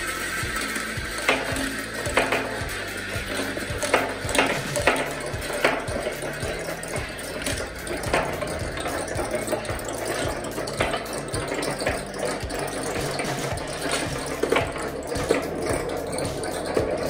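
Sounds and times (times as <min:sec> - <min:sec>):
marbles circling in funnel: 0:00.0 - 0:17.0
marbles clicking on pegs: 0:00.0 - 0:17.0
marbles rolling down wooden ramp: 0:00.0 - 0:17.0.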